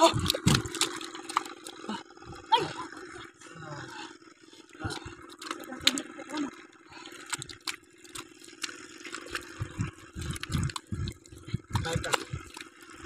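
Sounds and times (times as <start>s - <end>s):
wet mud squelching: 0.0s - 13.0s.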